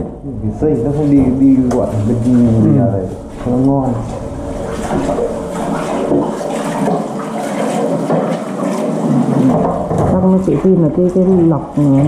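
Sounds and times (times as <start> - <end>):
water rushing and gurgling: 0.0 - 12.0.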